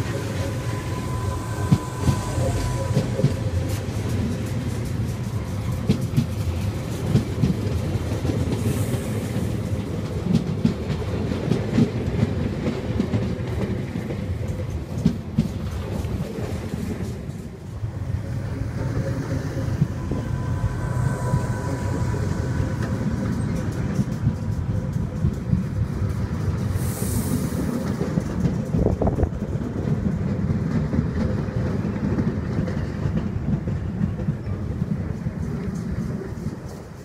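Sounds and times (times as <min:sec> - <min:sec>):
train wheels clacking over rail joints: 0:00.0 - 0:17.6, 0:18.5 - 0:37.0
train rumble: 0:00.0 - 0:37.0.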